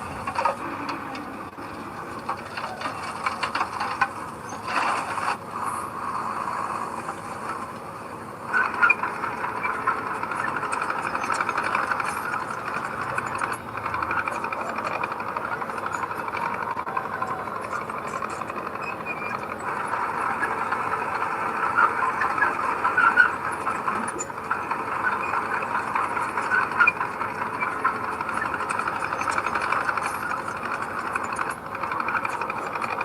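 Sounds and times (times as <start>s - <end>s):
heavy earthmoving machine running: 0.0s - 33.0s.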